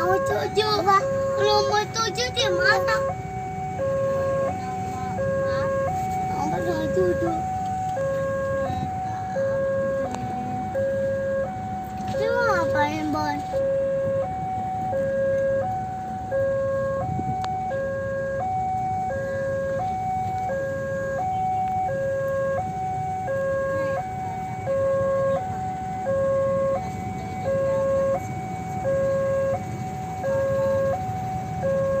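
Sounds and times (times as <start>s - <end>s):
two-tone warning alarm: 0.0s - 32.0s.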